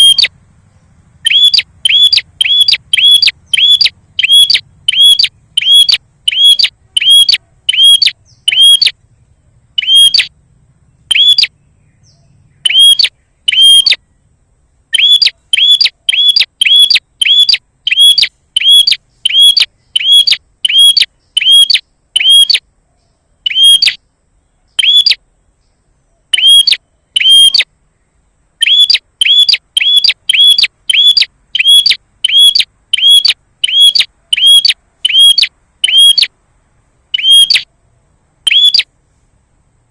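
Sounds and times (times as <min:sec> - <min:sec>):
bird sharp chirps: 0:00.0 - 0:00.4, 0:01.2 - 0:09.0, 0:09.7 - 0:14.3, 0:14.9 - 0:27.7, 0:28.6 - 0:36.3, 0:37.1 - 0:37.7, 0:38.5 - 0:38.9.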